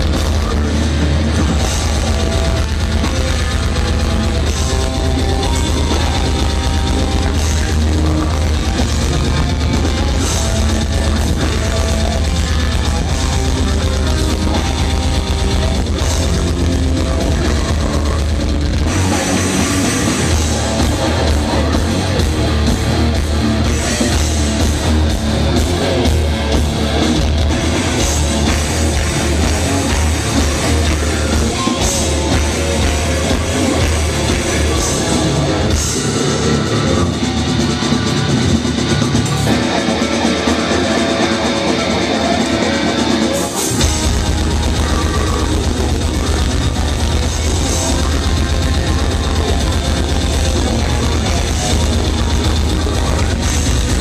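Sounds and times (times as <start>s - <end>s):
live death metal band playing: 0.0s - 54.0s.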